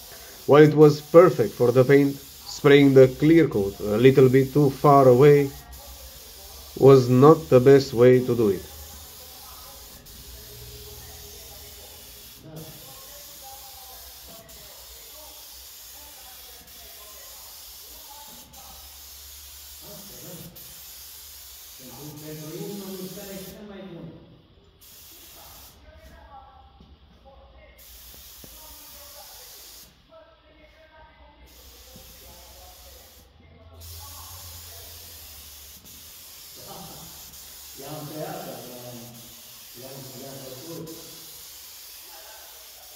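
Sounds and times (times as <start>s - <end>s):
paint spray gun hissing: 0.0s - 23.6s, 24.8s - 25.8s, 27.8s - 30.0s, 31.4s - 42.9s.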